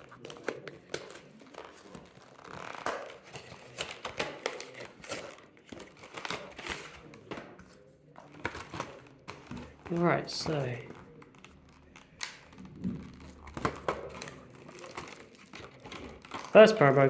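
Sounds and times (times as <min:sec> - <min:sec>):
packaging torn open: 0:00.0 - 0:07.2, 0:10.5 - 0:17.0.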